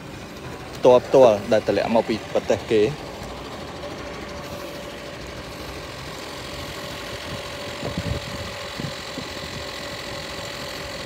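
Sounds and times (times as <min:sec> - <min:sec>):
engine idling with whine: 0:00.0 - 0:11.0.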